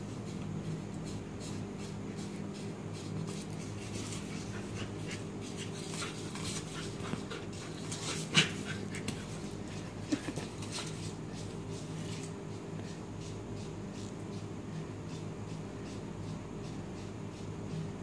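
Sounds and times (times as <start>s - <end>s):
puppy panting and snuffling: 0.1s - 18.0s.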